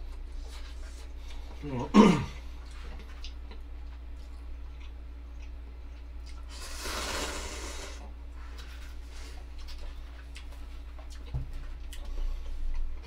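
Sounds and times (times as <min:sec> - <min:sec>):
low electrical hum: 0:00.0 - 0:13.0
eating noises: 0:00.5 - 0:13.0.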